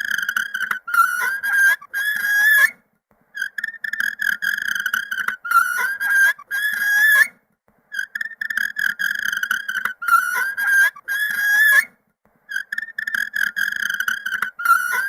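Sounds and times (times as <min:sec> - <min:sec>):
fingernails scraping a chalkboard: 0:00.2 - 0:02.7, 0:03.4 - 0:07.3, 0:08.0 - 0:11.8, 0:12.5 - 0:15.0.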